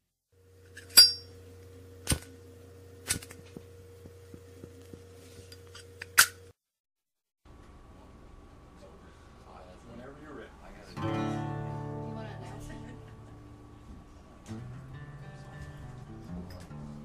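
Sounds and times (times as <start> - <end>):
steady low hum: 0.4 - 6.5, 7.5 - 17.0.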